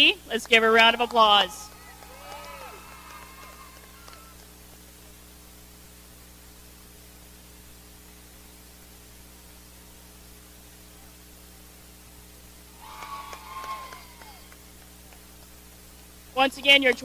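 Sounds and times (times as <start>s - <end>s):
constant hiss: 0.0s - 17.0s
electrical mains hum: 0.0s - 17.0s.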